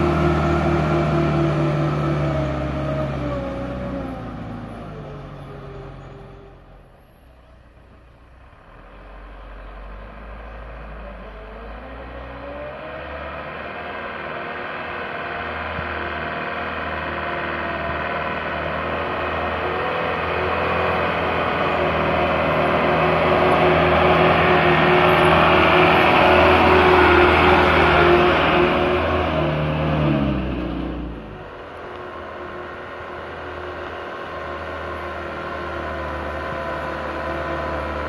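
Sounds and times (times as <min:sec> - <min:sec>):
truck engines labouring: 0:00.0 - 0:38.0.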